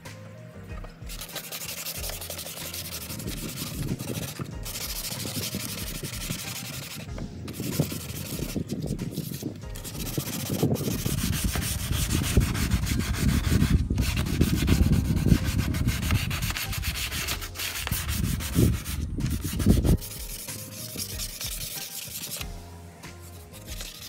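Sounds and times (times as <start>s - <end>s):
sandpaper rubbing on plastic: 1.0s - 22.5s, 23.2s - 24.0s.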